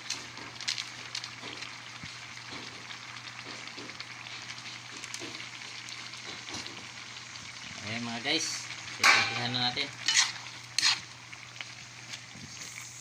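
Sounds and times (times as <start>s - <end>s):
soup boiling in metal pan: 0.0s - 13.0s.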